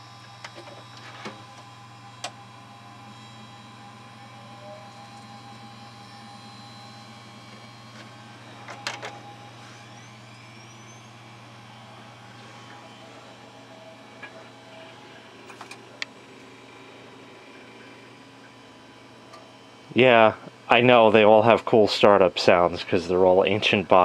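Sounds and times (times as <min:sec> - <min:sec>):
computer fans humming: 0:00.0 - 0:24.0
faint rising whines: 0:00.0 - 0:24.0.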